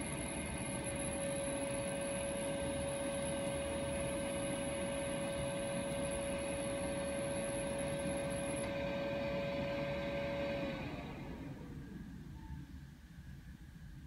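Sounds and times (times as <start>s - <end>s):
printer motor whine and fan hum: 0.0s - 14.0s.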